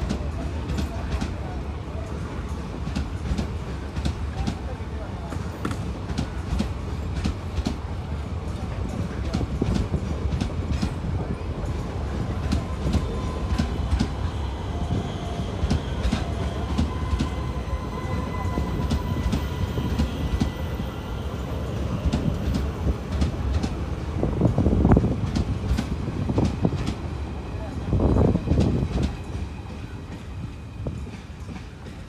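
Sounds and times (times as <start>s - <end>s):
train coaches rumbling past: 0.0s - 32.0s.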